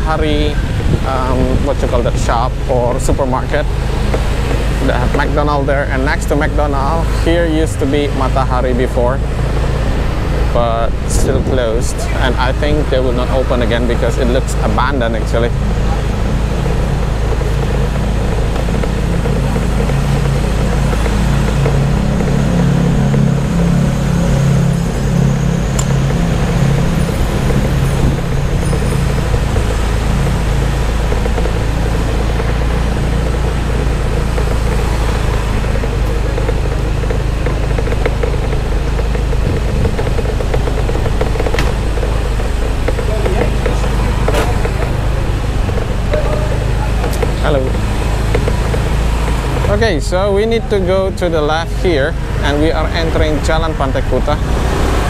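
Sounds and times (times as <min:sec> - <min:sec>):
motorbike engine running: 0:00.0 - 0:55.0
road traffic noise: 0:00.0 - 0:55.0.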